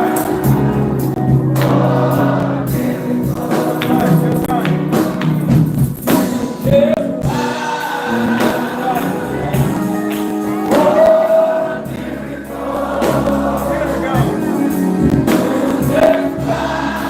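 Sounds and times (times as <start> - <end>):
choir singing gospel: 0.0 - 17.0
instrumental accompaniment: 0.0 - 17.0.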